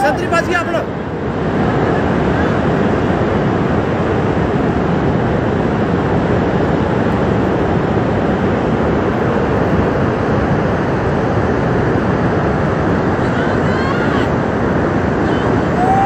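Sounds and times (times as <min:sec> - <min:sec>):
flood water rushing: 0:00.0 - 0:16.0.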